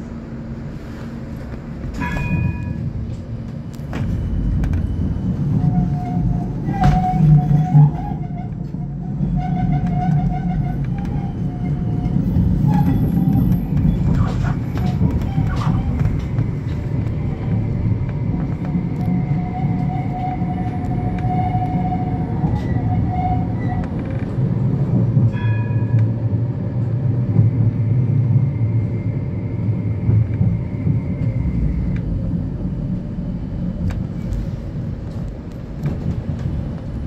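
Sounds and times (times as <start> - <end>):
train rumbling on track: 0.0 - 37.0.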